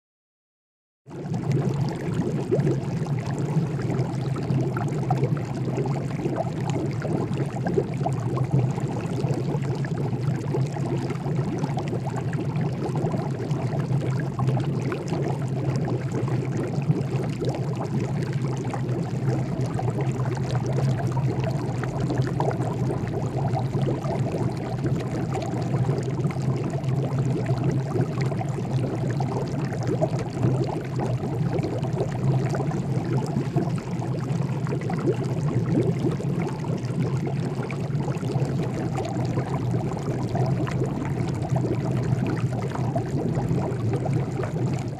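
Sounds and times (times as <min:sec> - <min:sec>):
water boiling and bubbling: 0:01.1 - 0:44.9
low even hum: 0:01.2 - 0:44.9.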